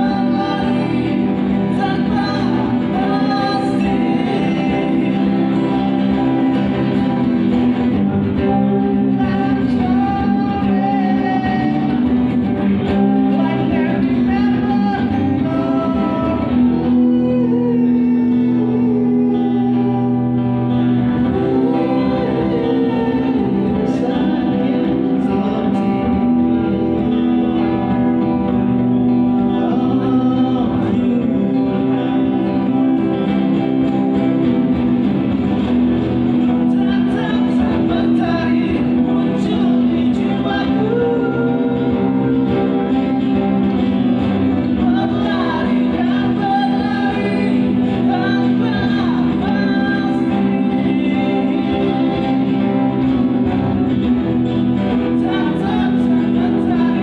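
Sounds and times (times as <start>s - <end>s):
acoustic guitars strummed: 0.0s - 57.0s
man singing through pa: 0.0s - 57.0s.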